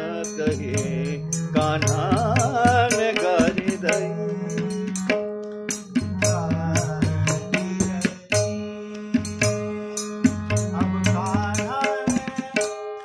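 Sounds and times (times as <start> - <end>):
man singing: 0.0 - 5.2, 6.0 - 13.0
harmonium: 0.0 - 13.0
drum strokes: 0.4 - 12.8.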